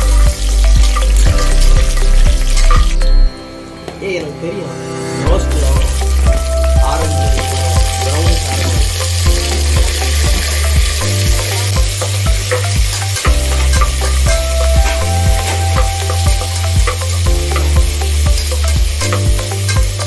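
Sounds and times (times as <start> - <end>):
food sizzling in oil: 0.0 - 3.3, 5.3 - 20.0
music with strong bass: 0.0 - 3.5, 5.2 - 20.0.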